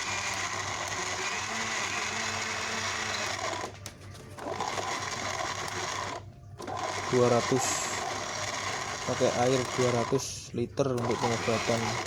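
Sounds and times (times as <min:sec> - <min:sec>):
electric blender running: 0:00.0 - 0:03.8, 0:04.4 - 0:10.4, 0:11.0 - 0:12.0.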